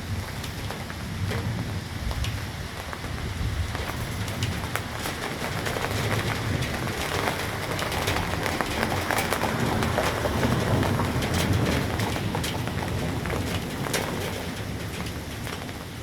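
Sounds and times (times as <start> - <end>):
continuous low rumble: 0.0 - 16.0
rain falling: 0.0 - 16.0
raindrops ticking on surface: 0.0 - 16.0.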